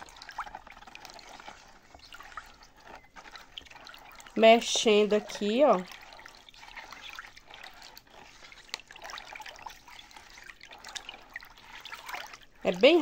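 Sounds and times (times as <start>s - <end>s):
water swishing in plastic bowl: 0.0s - 13.0s.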